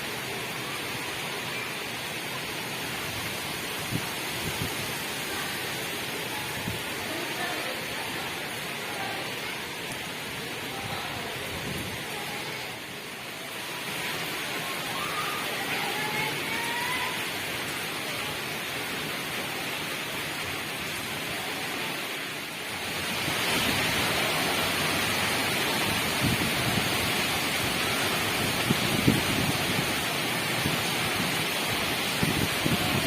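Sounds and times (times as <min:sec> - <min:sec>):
heavy rain in strong wind: 0:00.0 - 0:33.0.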